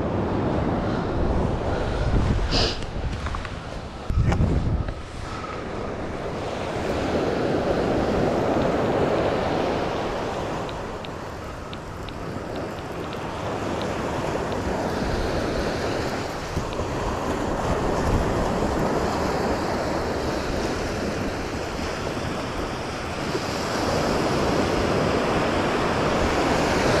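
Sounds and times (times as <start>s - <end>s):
waves breaking on beach: 0.0s - 27.0s
wind buffeting microphone: 0.0s - 27.0s.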